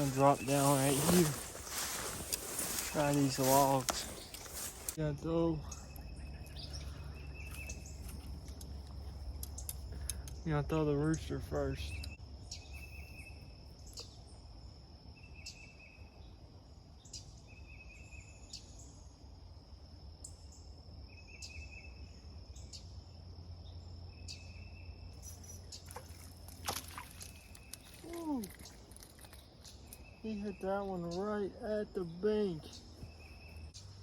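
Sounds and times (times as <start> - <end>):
insects buzzing and chirping: 0.0 - 34.0.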